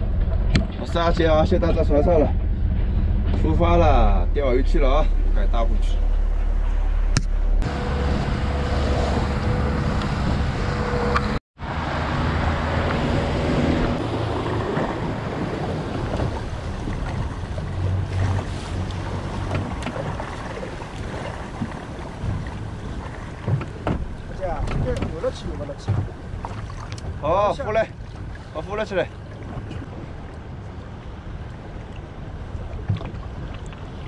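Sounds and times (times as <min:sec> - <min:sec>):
outboard motor running: 0:00.0 - 0:34.0
rush of boat wake: 0:00.0 - 0:34.0
wind buffeting microphone: 0:00.0 - 0:34.0.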